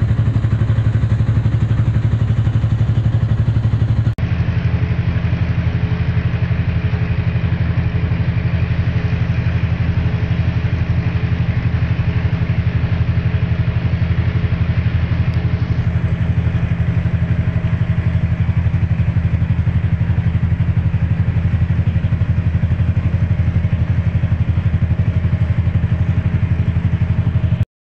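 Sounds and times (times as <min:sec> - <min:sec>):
boat engine droning: 0:00.0 - 0:27.6.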